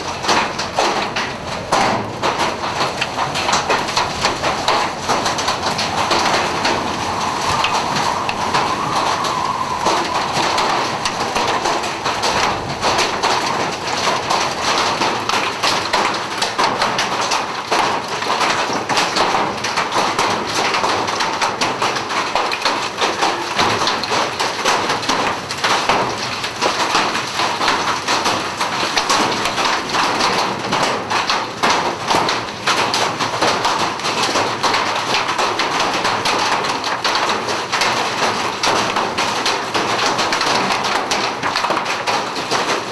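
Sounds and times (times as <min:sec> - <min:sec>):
hailstones pounding on vehicle: 0:00.0 - 0:42.9.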